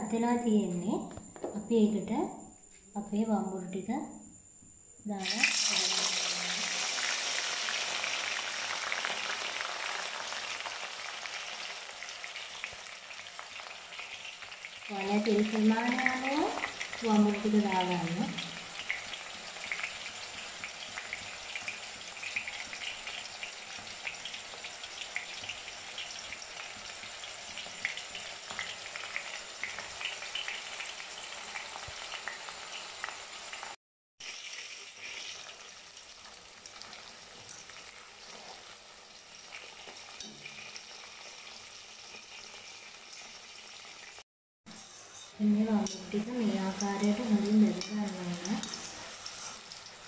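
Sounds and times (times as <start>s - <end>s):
deep-frying sizzle with pops: 5.1s - 50.0s.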